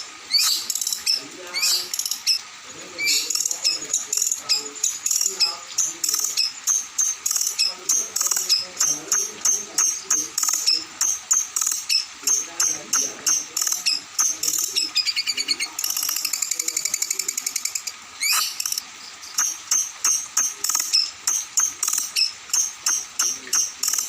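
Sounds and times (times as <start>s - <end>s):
bird buzzing trill: 0.3s - 2.4s, 3.0s - 24.0s
songbird singing high notes: 0.3s - 24.0s.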